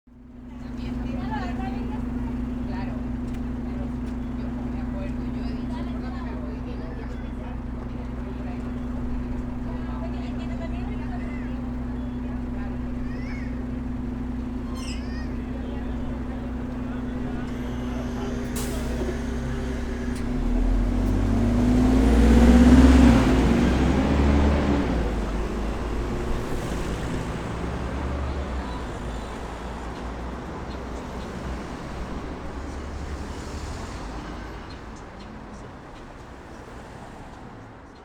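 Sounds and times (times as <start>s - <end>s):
traffic noise: 0.1s - 38.0s
bus engine revving: 0.3s - 37.9s.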